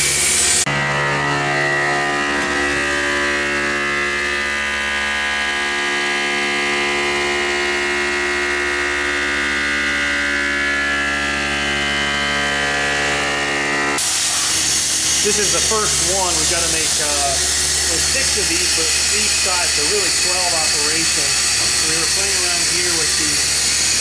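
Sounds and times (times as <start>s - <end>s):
milling machine cutting metal: 0.0s - 24.0s.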